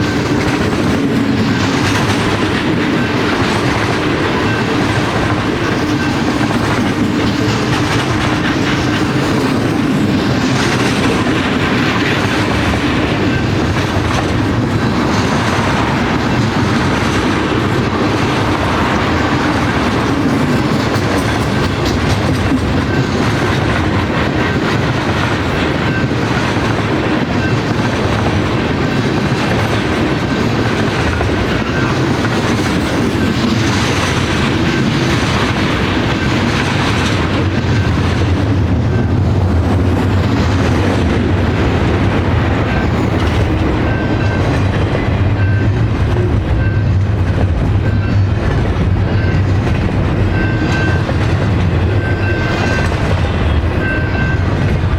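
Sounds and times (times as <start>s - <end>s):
train cars rolling on rails: 0.0s - 54.9s.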